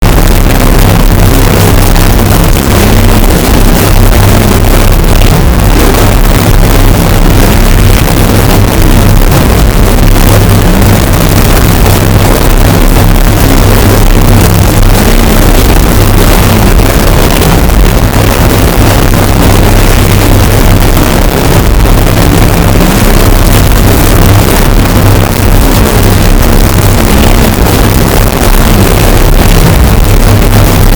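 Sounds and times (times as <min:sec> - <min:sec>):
distorted deep bass drone: 0:00.0 - 0:30.9.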